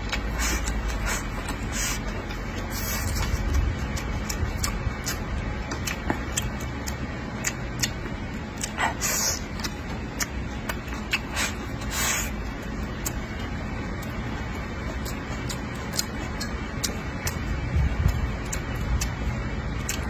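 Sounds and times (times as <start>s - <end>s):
low steady rumble: 0.0s - 20.0s
man chewing food: 0.0s - 20.0s
mouth clicks and smacks: 0.0s - 20.0s.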